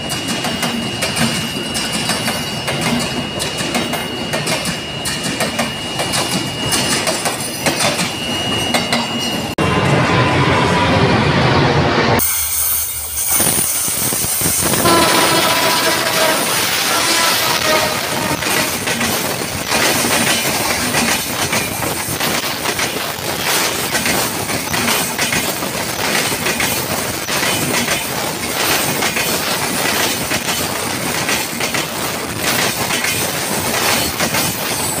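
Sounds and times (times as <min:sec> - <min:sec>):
train wheels clattering: 0:00.0 - 0:09.5, 0:12.2 - 0:35.0.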